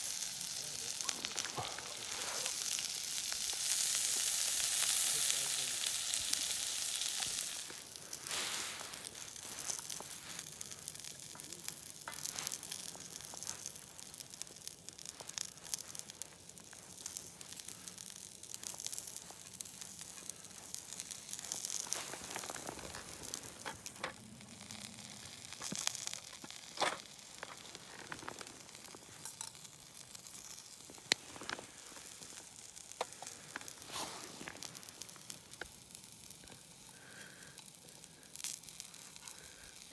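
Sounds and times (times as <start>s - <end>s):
food sizzling in a hot pan: 0.0s - 39.9s
pops and crackles: 0.0s - 39.9s.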